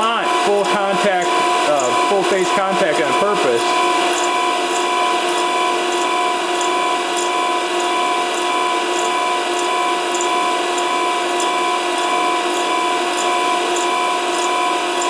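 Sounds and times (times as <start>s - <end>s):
grinding wheel on steel: 0.0s - 15.0s
motor whine: 0.0s - 15.0s.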